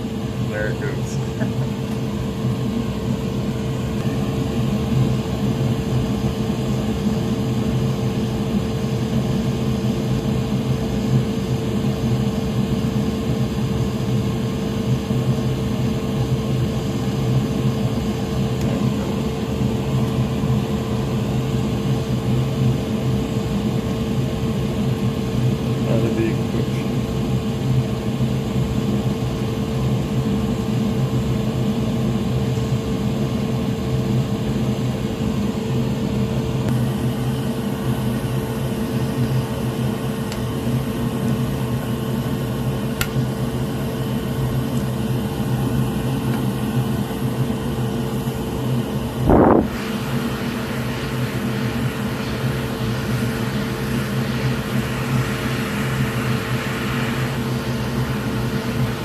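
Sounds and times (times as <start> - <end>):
electric fan motor humming: 0.0 - 31.1, 34.1 - 59.0.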